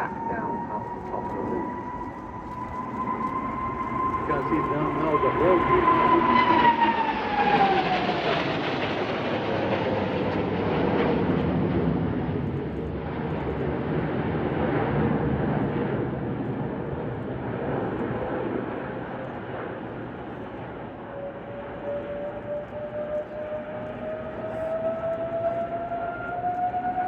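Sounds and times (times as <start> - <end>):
jet aircraft flying past: 0.0 - 27.0.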